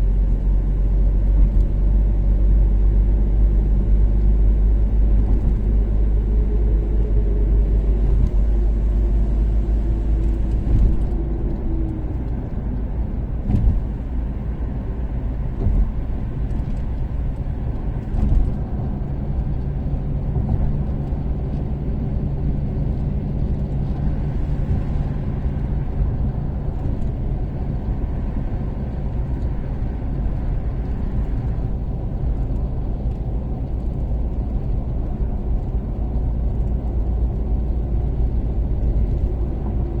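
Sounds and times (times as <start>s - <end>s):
car engine cruising: 0.0s - 40.0s
road rumble: 0.0s - 40.0s.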